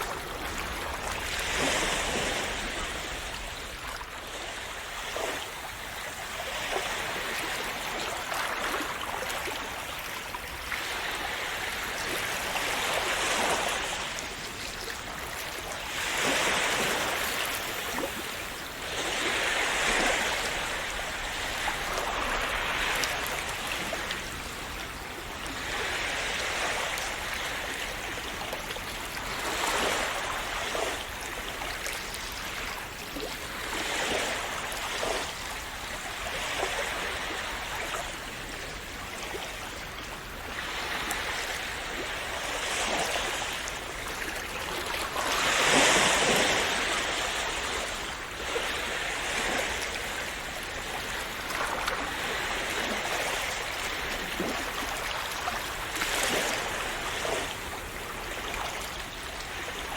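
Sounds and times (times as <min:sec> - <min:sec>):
small waves washing onto shore: 0:00.0 - 0:59.9.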